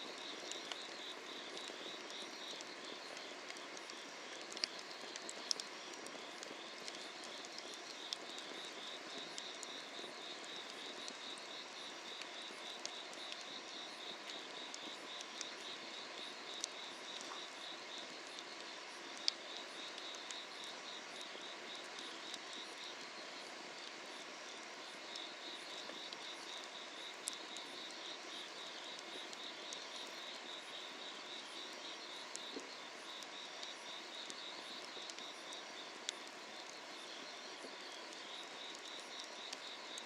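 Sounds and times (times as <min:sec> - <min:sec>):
wood fire hissing: 0:00.0 - 0:40.0
fire crackling pops: 0:00.1 - 0:40.0
insects trilling: 0:00.1 - 0:40.0.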